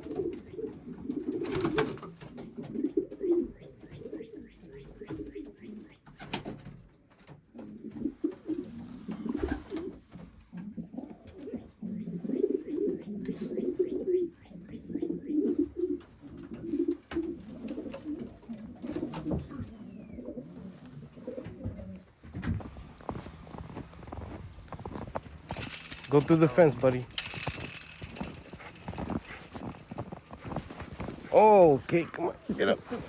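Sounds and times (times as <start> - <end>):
pigeons cooing: 0.0 - 6.4, 7.4 - 24.1, 24.7 - 33.0.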